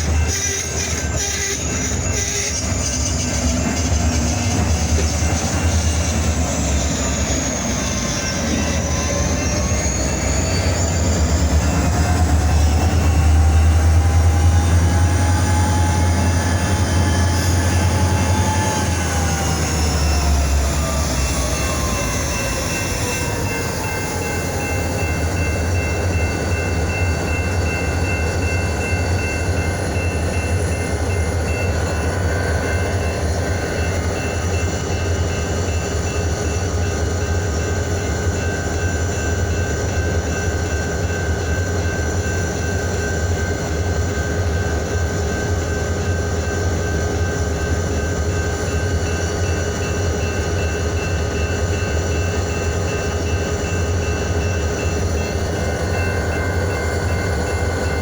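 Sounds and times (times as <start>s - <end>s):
locomotive engine drone with whine: 0.0s - 58.0s.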